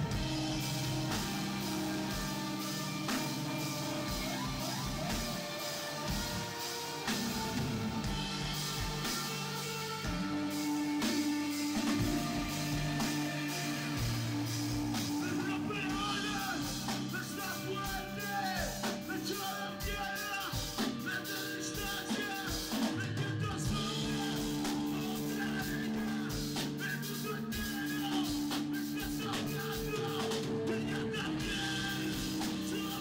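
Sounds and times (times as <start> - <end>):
person singing: 0.0 - 7.4, 8.0 - 33.0
drum kit: 0.0 - 33.0
guitar: 0.0 - 33.0.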